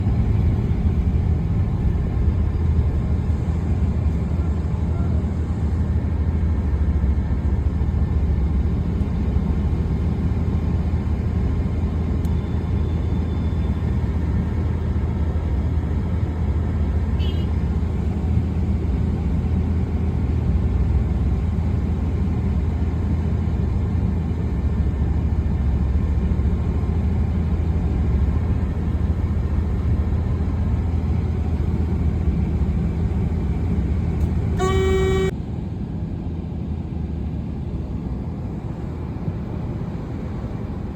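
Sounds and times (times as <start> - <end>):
steady low rumble: 0.0 - 12.4, 13.7 - 40.9.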